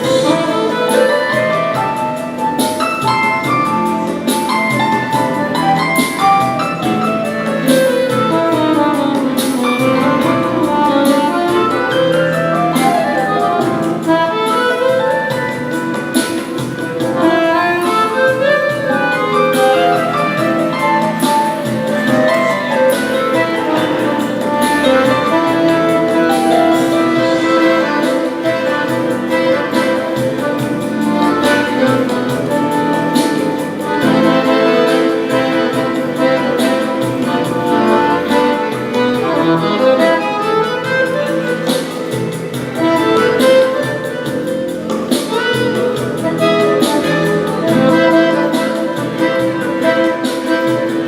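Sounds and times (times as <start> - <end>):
instrumental music: 0.0 - 51.0.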